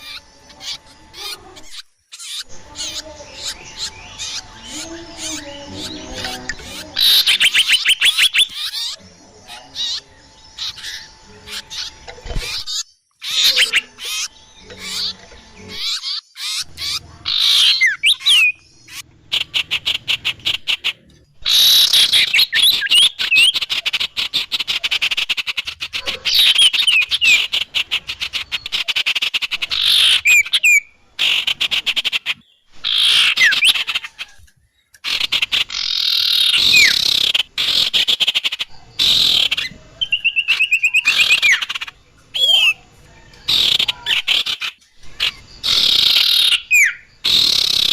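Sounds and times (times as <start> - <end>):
recorded songbird calls: 0.0 - 47.9.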